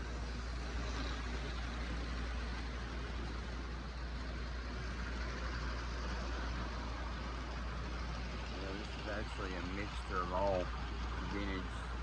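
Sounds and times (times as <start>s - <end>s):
constant low hum: 0.0s - 12.0s
model train motors whirring: 0.0s - 12.0s.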